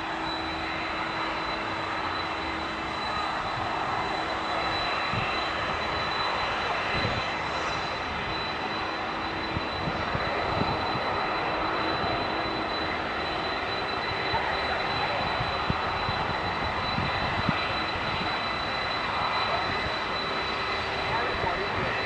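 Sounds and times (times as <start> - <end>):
aircraft engines rushing: 0.0 - 22.0
high engine whine: 0.0 - 22.0.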